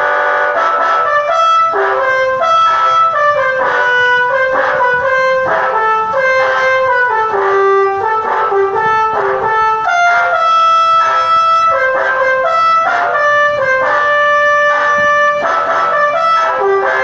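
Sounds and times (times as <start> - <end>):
bus multi-tone horn tune: 0.0 - 17.0.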